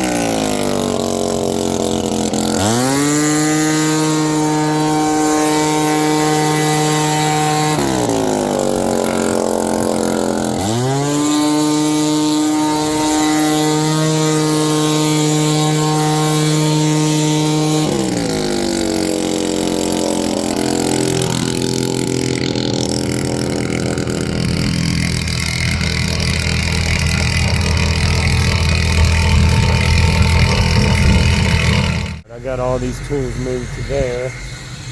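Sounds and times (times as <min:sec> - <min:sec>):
leaf blower engine revving: 0:00.0 - 0:34.9.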